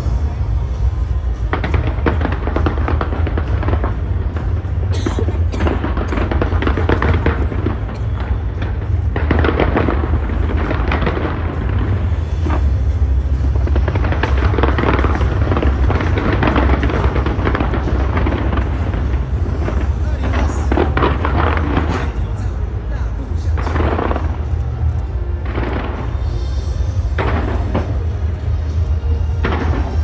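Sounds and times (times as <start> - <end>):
deep rumble: 0.0 - 30.0
fireworks crackling: 0.0 - 30.0
music: 0.0 - 30.0.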